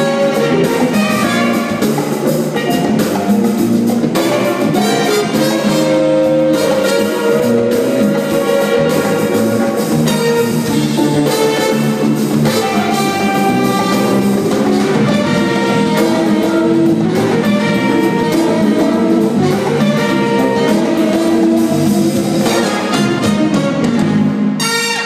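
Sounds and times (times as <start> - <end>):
electric bass: 0.0 - 24.6
congas: 0.0 - 25.0
drum kit: 0.0 - 25.0
electric guitar: 0.0 - 25.0
keyboards: 0.0 - 25.0.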